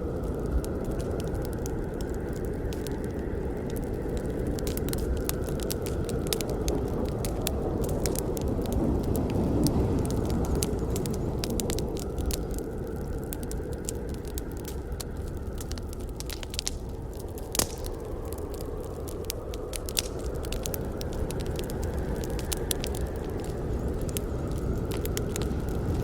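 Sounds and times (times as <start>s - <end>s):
flames rushing: 0.0s - 26.0s
wood crackling and popping: 0.0s - 26.0s.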